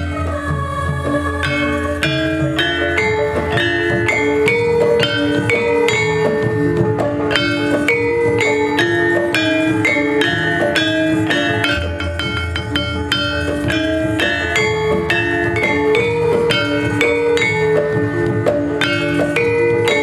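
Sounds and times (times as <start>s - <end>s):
metallophones struck with mallets: 0.0s - 20.0s.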